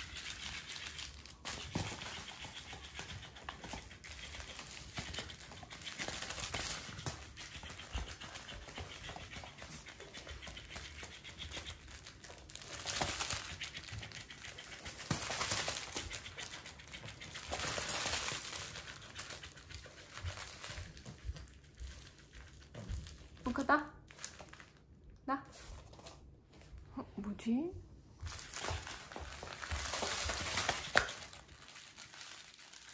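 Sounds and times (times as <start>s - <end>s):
dog scuffling with toy: 0.0s - 23.4s, 28.2s - 32.9s.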